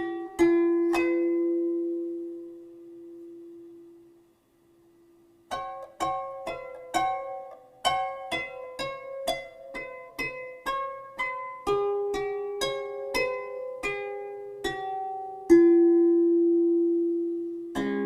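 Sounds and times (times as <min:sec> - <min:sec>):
plucked string music: 0:00.0 - 0:04.2, 0:05.4 - 0:18.0.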